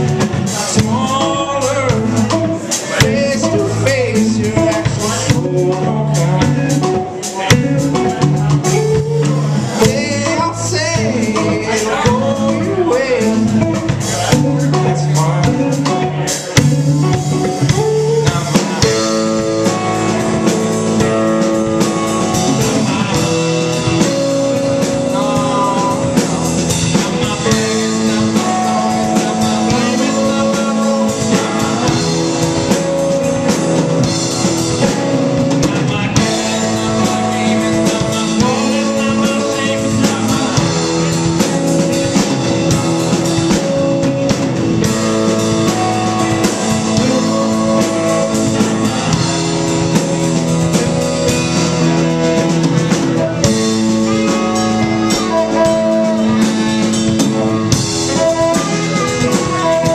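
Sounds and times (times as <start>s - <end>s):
bass guitar: 0.0s - 59.9s
drum kit: 0.0s - 59.9s
electric guitar: 0.0s - 59.9s
man singing: 0.0s - 59.9s.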